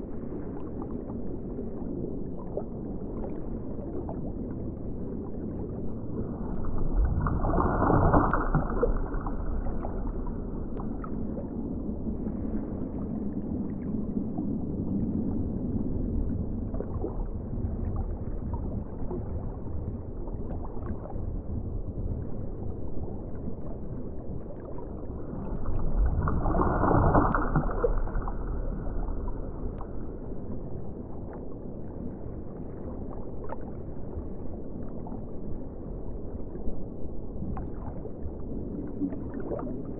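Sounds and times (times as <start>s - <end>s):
underwater rumble and swirl: 0.0s - 39.9s.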